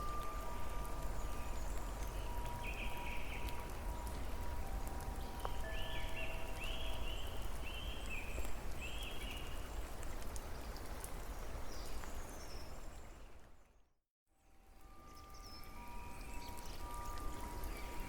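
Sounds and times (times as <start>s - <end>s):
steady rain with drop ticks: 0.0s - 13.7s, 14.5s - 18.0s.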